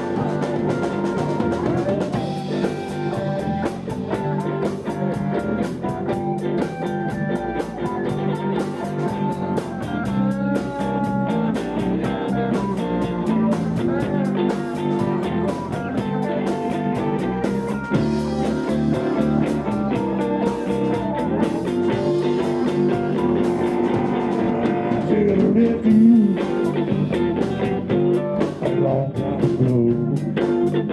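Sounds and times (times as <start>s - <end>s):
drum kit with cymbals: 0.0s - 30.9s
electric bass: 0.0s - 30.9s
electric guitars: 0.0s - 30.9s.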